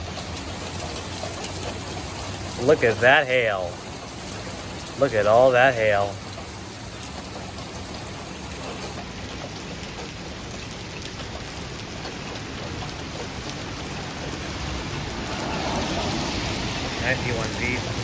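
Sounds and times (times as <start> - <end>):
rain and hail on pavement: 0.0 - 18.0.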